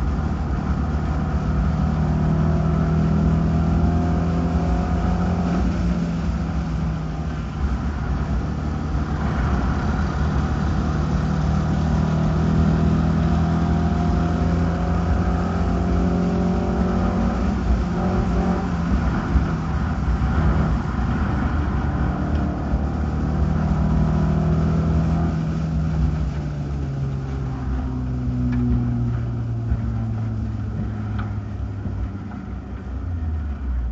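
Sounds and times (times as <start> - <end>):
race car engine running hard: 0.0 - 33.9.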